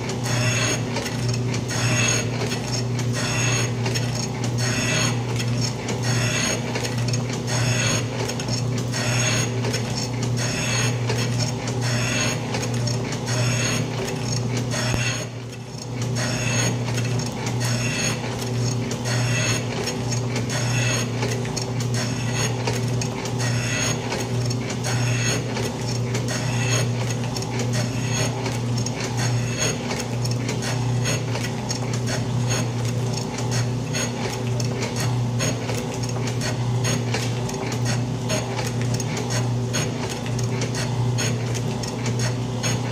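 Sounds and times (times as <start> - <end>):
motor hum: 0.0 - 42.9.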